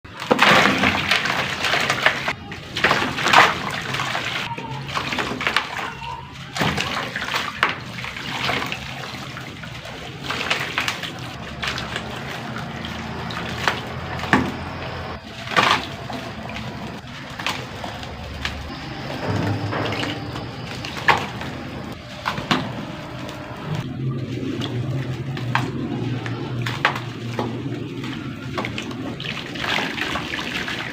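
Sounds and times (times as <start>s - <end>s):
cement crumbling in water: 0.1s - 30.9s.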